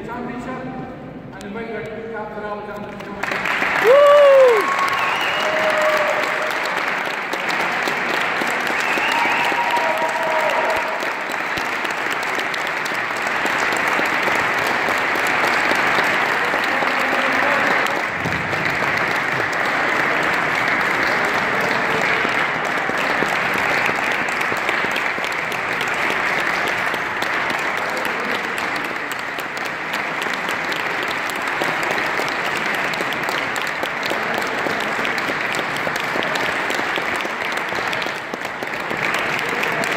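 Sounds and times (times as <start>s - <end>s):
crowd applauding: 2.8s - 39.9s.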